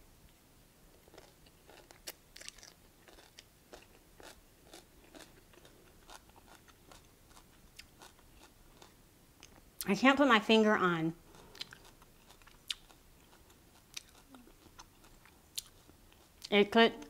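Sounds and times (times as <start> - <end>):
person chewing food: 0.9 - 9.6, 11.2 - 16.5.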